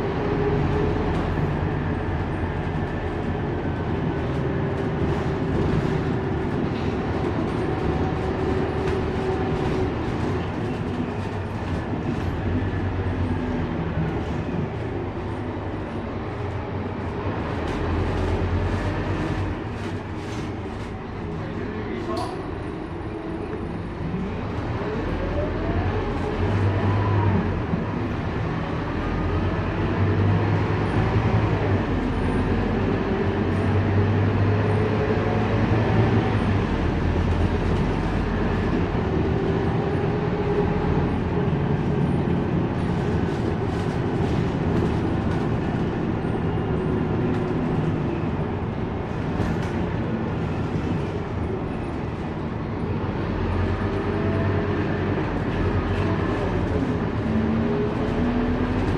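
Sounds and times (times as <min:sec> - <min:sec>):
bus diesel engine hum: 0:00.0 - 0:58.9
road noise: 0:00.0 - 0:58.9.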